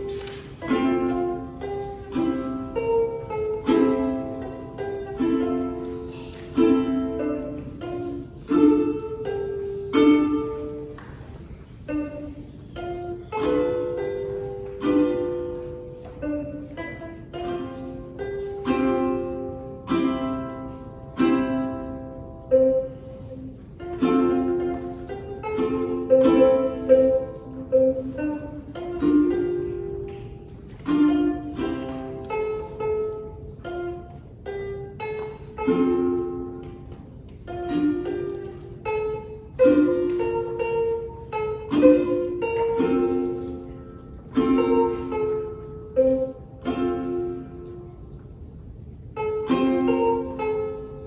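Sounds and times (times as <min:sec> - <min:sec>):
ukulele playing: 0:00.0 - 0:51.0.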